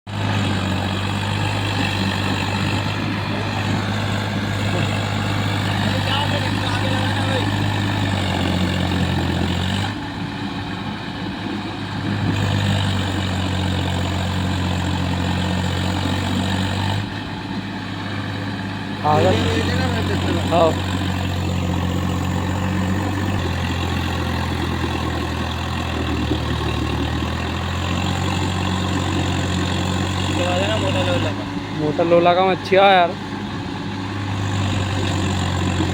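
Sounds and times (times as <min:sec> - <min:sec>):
tractor diesel engine droning: 0:00.0 - 0:35.9.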